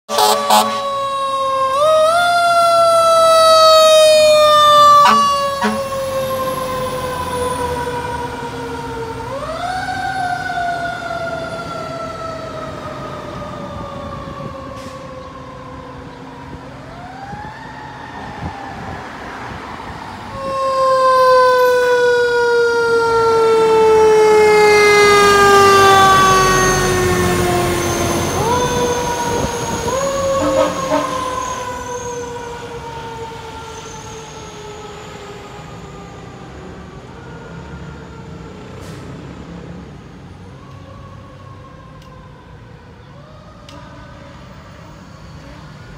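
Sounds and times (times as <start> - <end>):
fire engine siren wailing: 0.1 - 45.9
truck engines: 0.1 - 45.9.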